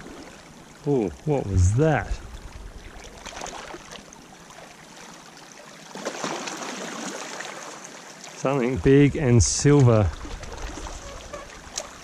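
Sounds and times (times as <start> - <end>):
small waves lapping over rocks: 0.0 - 8.8, 9.6 - 12.0.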